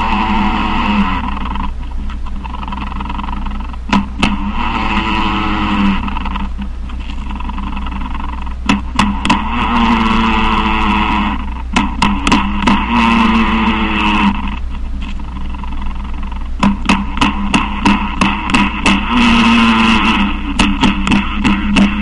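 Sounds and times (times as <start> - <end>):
spider buzzing drone: 0.0 - 22.0
steady low hum: 0.0 - 22.0
spider tapping: 0.5 - 11.1, 11.7 - 22.0.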